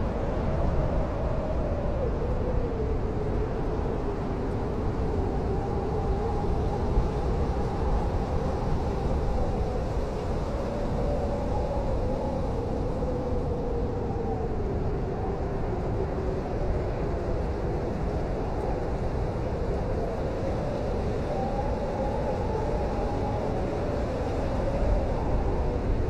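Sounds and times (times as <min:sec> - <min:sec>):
howling blizzard wind: 0:00.0 - 0:26.0.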